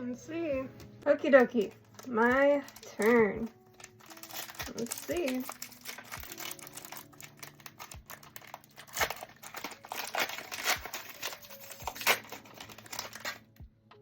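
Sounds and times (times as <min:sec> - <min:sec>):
foil wrapper crinkling and tearing: 0:01.3 - 0:13.6.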